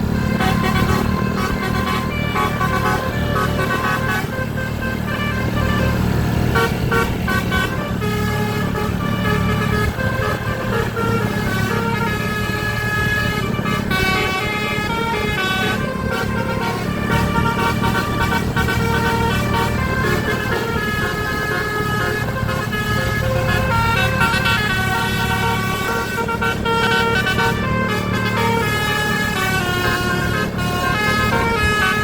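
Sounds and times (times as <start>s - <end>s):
low engine hum: 0.0s - 32.0s
musical air horn tune: 0.1s - 32.0s.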